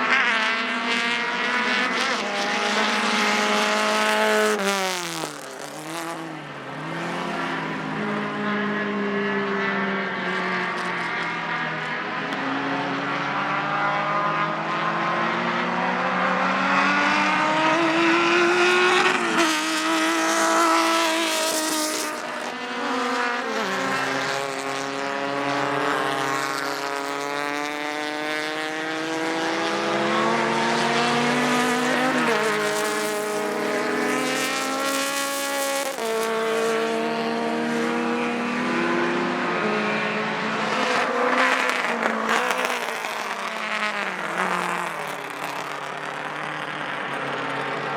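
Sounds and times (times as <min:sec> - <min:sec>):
racing car engines at full throttle: 0:00.0 - 0:47.9.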